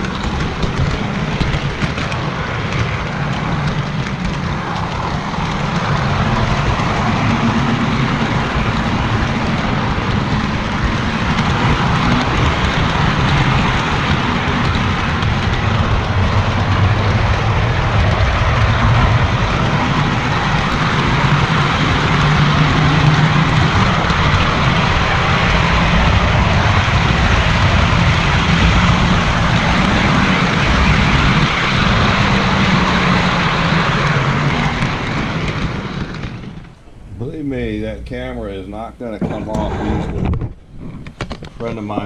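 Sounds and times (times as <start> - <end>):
low motor hum: 0.0 - 42.0
model train rumbling on rails: 0.0 - 42.0.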